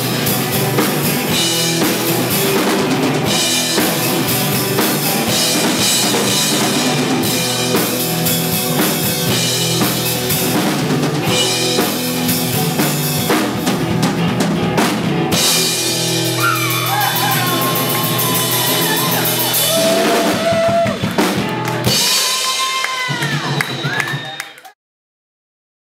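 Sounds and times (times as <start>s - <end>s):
strummed guitars: 0.0s - 22.6s
drum kit beat: 0.0s - 24.4s
live rock band playing: 0.0s - 24.4s.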